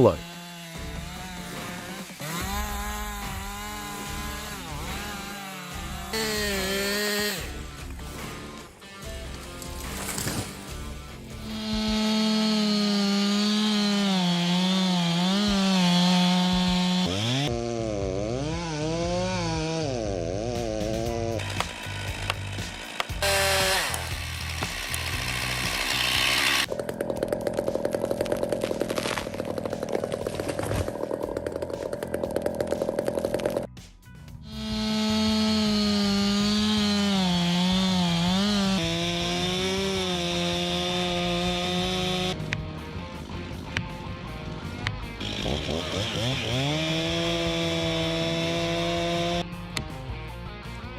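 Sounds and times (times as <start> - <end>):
chainsaw cutting wood: 0.0 - 33.7, 34.4 - 43.8, 44.4 - 49.5.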